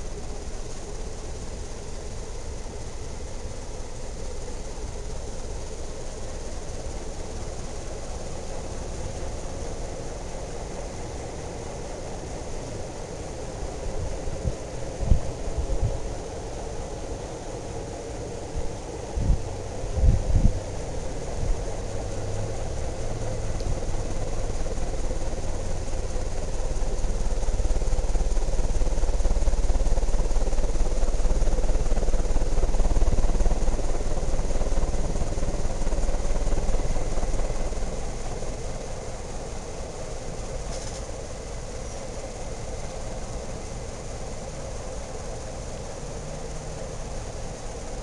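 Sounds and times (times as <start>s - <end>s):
ceiling fan motor hum: 0.0s - 48.0s
rumble of moving air: 0.0s - 48.0s.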